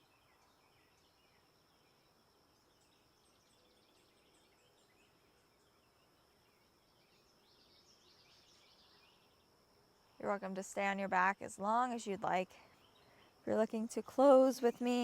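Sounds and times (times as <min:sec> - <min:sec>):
faint bird chirps: 0:00.0 - 0:10.3, 0:12.4 - 0:15.0.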